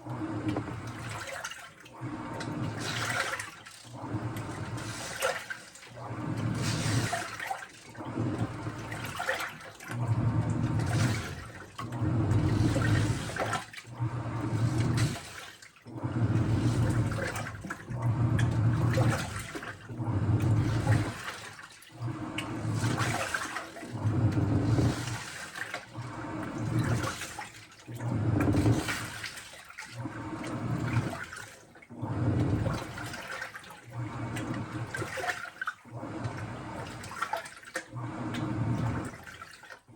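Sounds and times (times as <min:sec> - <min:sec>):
washing machine drum with water swishing: 0:00.0 - 0:39.9.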